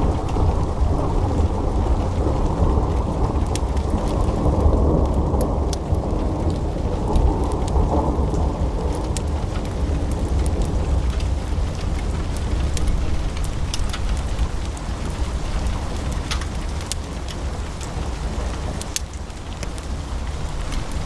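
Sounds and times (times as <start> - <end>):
logs crackling and popping: 0.0 - 21.0.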